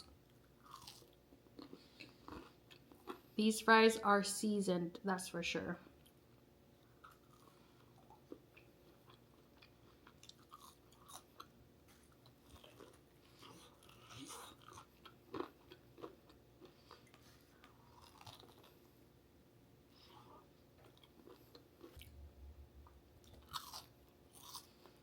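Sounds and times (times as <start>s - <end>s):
chewing with soft crunches: 0.0s - 3.4s, 5.9s - 19.2s, 19.8s - 25.0s.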